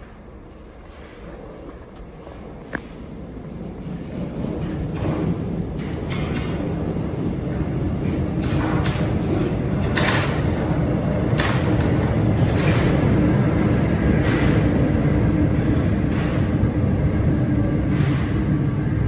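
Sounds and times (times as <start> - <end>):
sharp clacks of train: 0.0 - 19.0
subway train rumble: 0.0 - 19.0.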